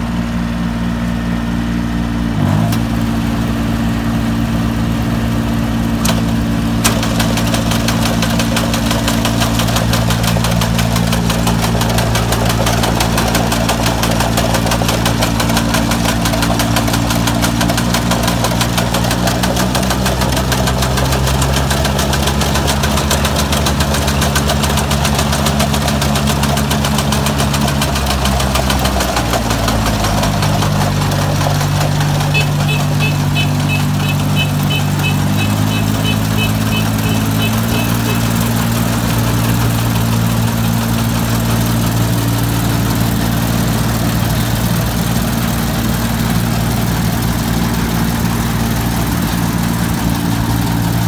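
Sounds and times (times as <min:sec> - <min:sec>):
harvester engine running: 0:00.0 - 0:51.0.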